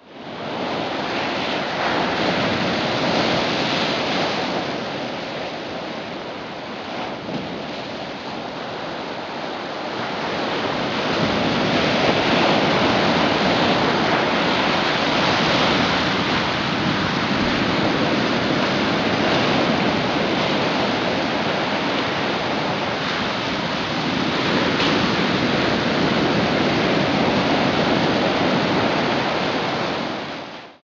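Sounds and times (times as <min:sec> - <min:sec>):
ocean surf: 0:00.0 - 0:30.8.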